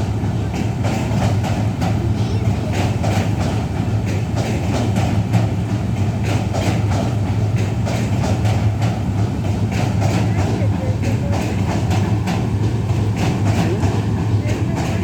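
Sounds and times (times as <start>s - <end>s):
train rumbling: 0.0s - 15.0s
wheels clattering over rail joints: 0.0s - 15.0s.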